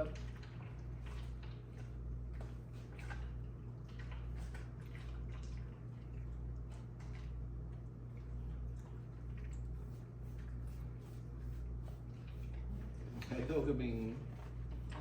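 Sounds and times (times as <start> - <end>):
chewing and eating noises: 0.0 - 15.0
steady low hum: 0.0 - 15.0.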